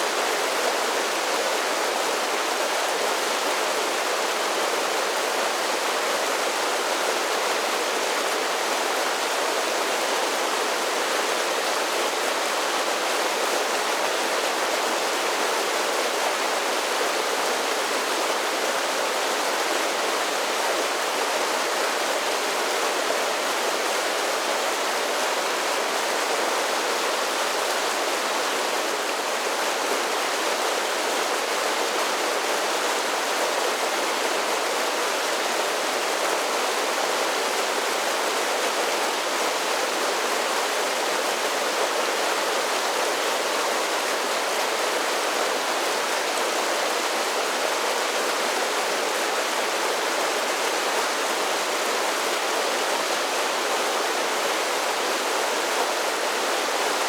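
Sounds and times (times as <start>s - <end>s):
creek water rushing over falls: 0.0s - 57.0s.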